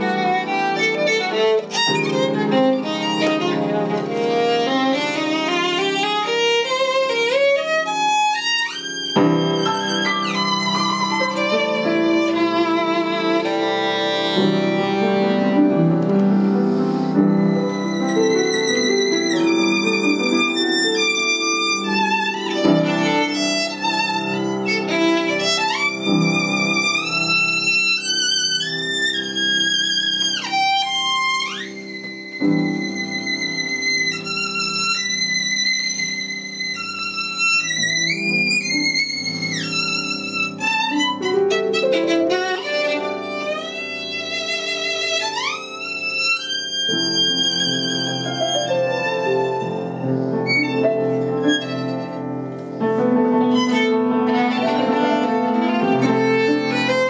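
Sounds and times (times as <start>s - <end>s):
piano chords: 0.0s - 57.0s
violin melody: 0.0s - 57.0s.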